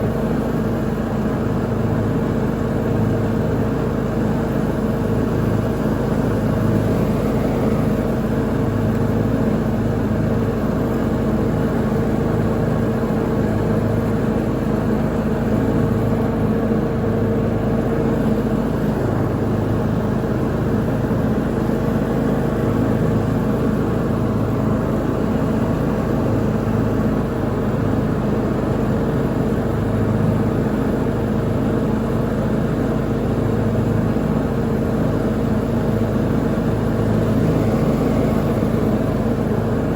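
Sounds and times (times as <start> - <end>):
lawn mower engine droning: 0.0 - 39.9.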